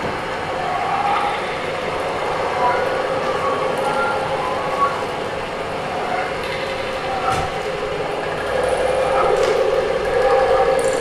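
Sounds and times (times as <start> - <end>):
dense noisy drone: 0.0 - 11.0
faint whistling tones: 0.5 - 11.0.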